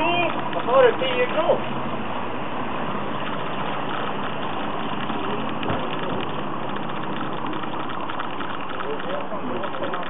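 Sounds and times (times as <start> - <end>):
constant rushing noise: 0.0 - 10.0
motor hum: 0.0 - 10.0.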